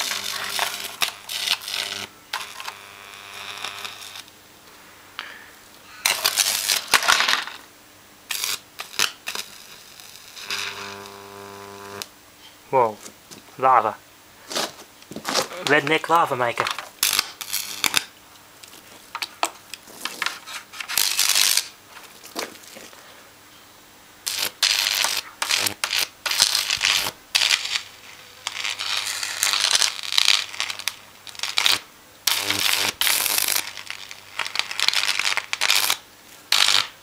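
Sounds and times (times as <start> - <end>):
electric arc crackling: 0.0 - 4.4, 6.0 - 7.7, 8.3 - 12.1, 15.3 - 22.8, 24.2 - 37.0.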